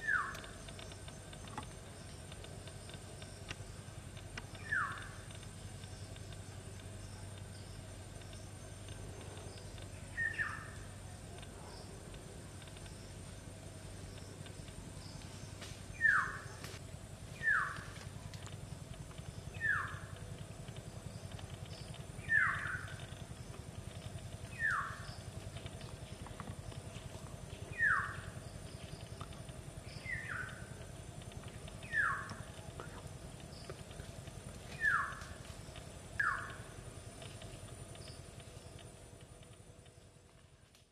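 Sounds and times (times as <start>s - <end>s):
low background hum: 0.0s - 40.9s.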